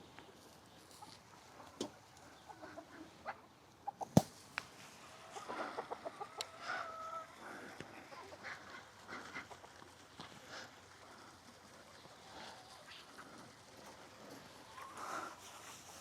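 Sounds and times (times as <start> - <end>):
chickens clucking: 0.2 - 16.0.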